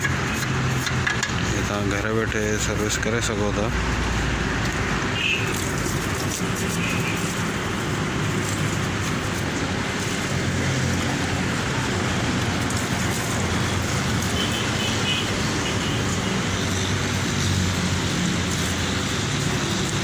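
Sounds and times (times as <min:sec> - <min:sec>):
water spraying on metal unit: 0:00.0 - 0:20.0.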